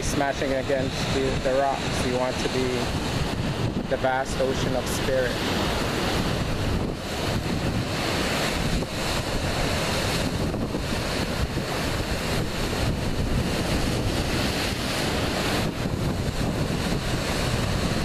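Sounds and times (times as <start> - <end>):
surf breaking on rocks: 0.0 - 18.0
wind buffeting microphone: 0.0 - 18.0.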